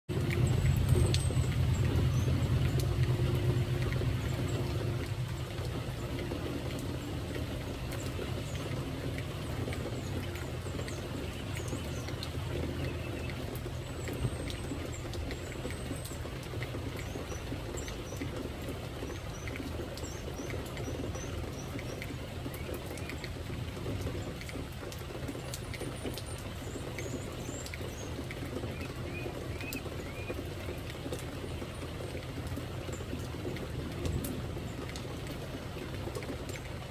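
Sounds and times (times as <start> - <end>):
birds chirping: 0.1 - 36.9
rain patter: 0.1 - 36.9.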